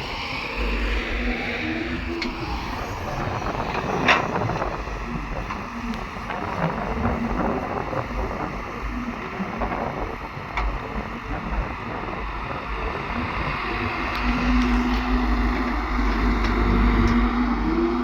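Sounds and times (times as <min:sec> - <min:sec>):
diesel machinery rumbling: 0:00.0 - 0:18.0.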